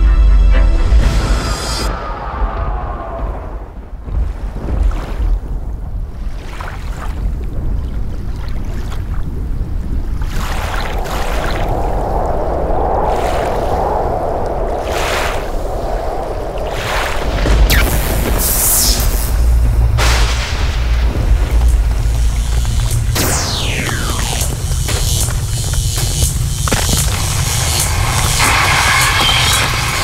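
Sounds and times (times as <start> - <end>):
deep rumble: 0.0 - 30.0
watery rushing wash: 1.4 - 30.0.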